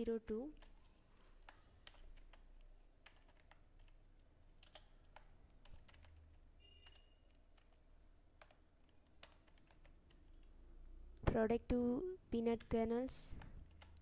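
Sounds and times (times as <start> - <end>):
faint keyboard typing: 0.0 - 10.7, 12.4 - 14.0.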